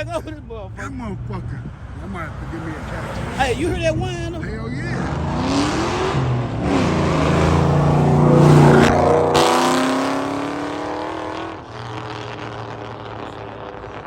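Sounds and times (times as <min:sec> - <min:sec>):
car engine revving with supercharger whine: 0:01.2 - 0:14.0.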